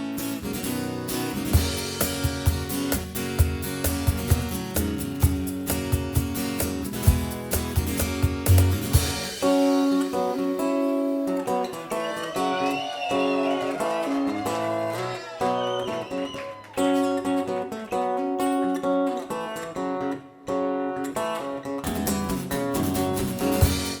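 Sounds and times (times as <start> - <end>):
guitar chords: 0.0 - 24.0.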